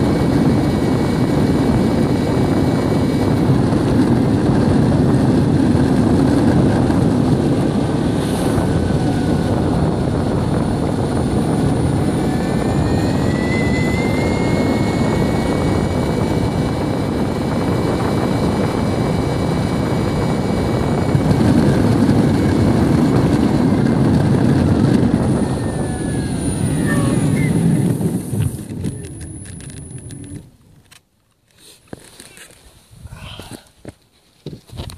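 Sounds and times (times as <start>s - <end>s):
electric motor whine: 0.0s - 30.8s
skateboard wheels rumbling on asphalt: 0.0s - 31.0s.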